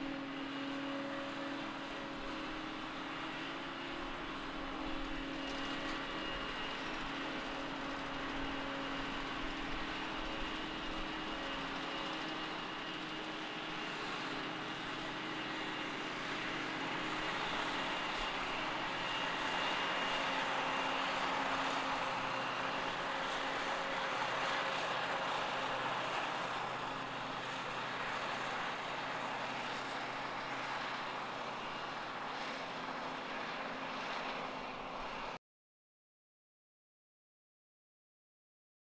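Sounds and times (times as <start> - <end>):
diesel engine drone: 0.0 - 35.4.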